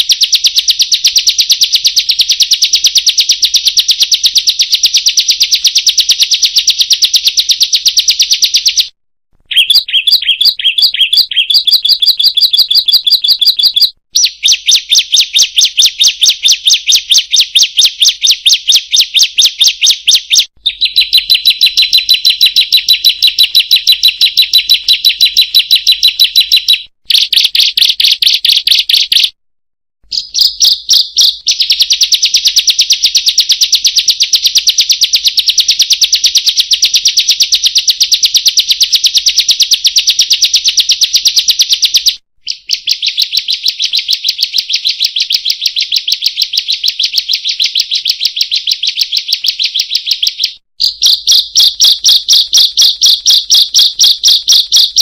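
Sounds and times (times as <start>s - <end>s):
bird calling sharp high chirps: 0.0s - 29.4s, 30.0s - 34.7s, 36.9s - 55.0s.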